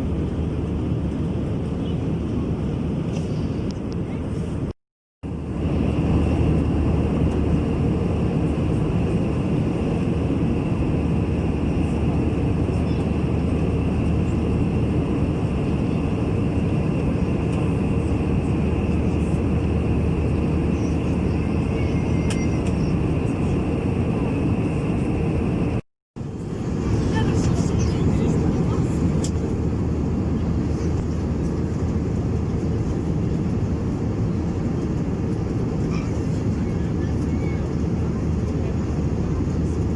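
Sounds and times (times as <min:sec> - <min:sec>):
airliner cabin noise: 0:05.5 - 0:39.9.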